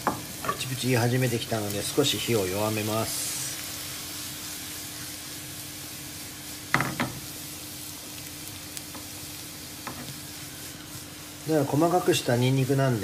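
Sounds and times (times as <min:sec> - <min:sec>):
garlic frying in oil: 0:00.0 - 0:13.0.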